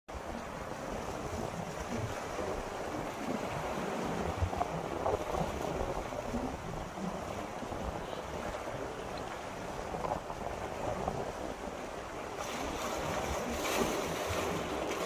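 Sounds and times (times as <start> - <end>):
wind on microphone: 0.1 - 15.0.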